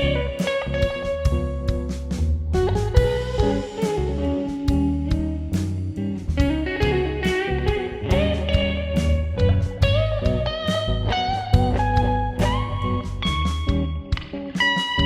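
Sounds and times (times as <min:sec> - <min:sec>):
bluesy electric guitar music: 0:00.0 - 0:15.0.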